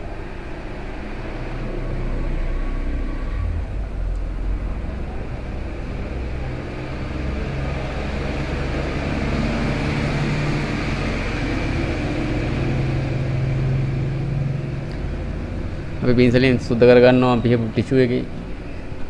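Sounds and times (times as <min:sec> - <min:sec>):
low mechanical hum and rumble: 0:00.0 - 0:19.0.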